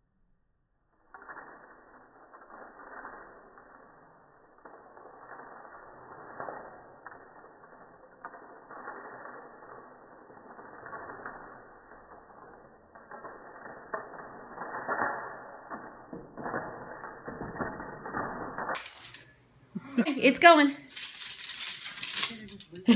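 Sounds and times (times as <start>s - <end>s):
wooden sticks creaking and clicking: 1.0s - 19.5s, 20.9s - 22.9s.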